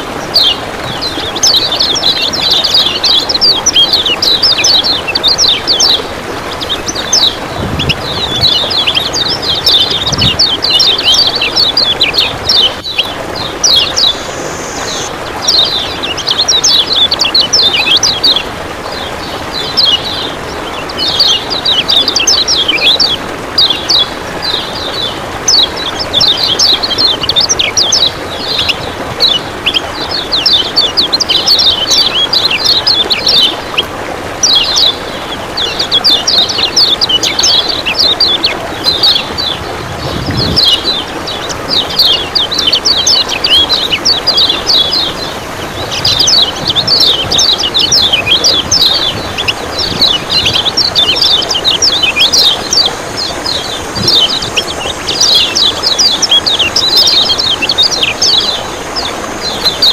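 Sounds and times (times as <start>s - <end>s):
bird singing chattering trills: 0.0s - 59.9s
running water: 0.0s - 59.9s.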